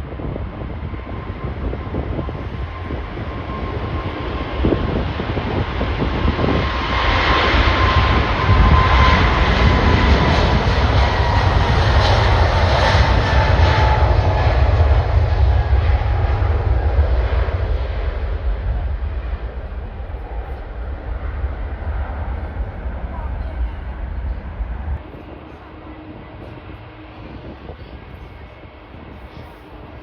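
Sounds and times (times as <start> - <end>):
deep engine rumble: 0.0 - 30.0
jet airliner engines passing: 0.0 - 30.0
falling engine whine: 0.1 - 29.2.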